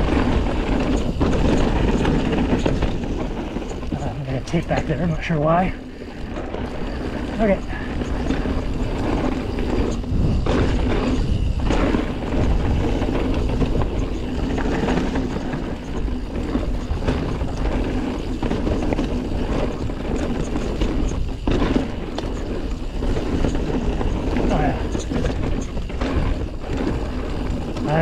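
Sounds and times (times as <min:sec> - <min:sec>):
bike tyre rumble on dirt trail: 0:00.0 - 0:28.0.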